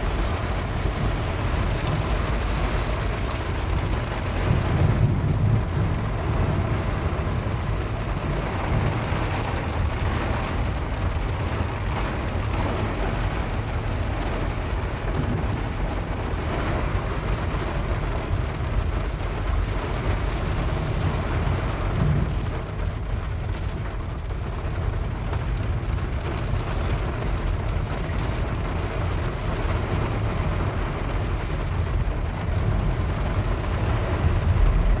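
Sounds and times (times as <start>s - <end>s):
heavy rain on flooded street: 0.0s - 35.0s
low rumble: 0.0s - 35.0s.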